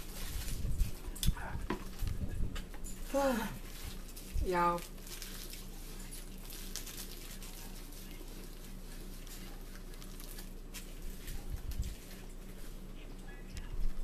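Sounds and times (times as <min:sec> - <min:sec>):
clicks and rustles of eating: 0:00.0 - 0:14.0
low electrical hum: 0:00.0 - 0:14.0.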